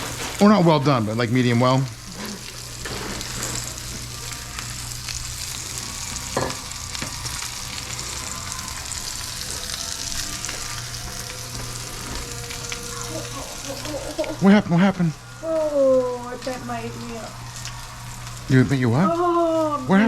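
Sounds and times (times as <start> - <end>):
low steady hum: 0.0 - 20.0
meat sizzling in a pan: 0.0 - 20.0.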